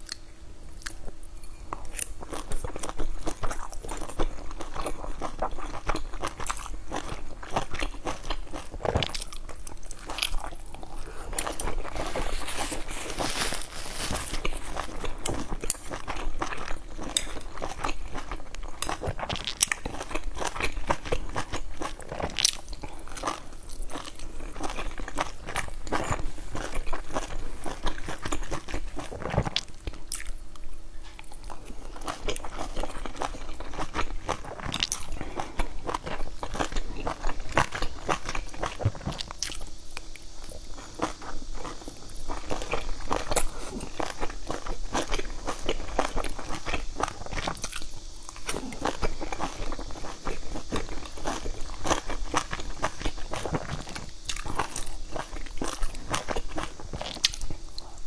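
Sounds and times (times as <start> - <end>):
chewing dumplings: 0.0 - 58.0.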